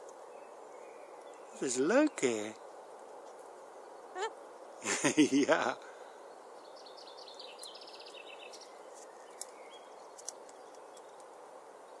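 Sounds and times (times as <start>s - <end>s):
background hiss: 0.0s - 12.0s
small birds chirping: 0.0s - 12.0s.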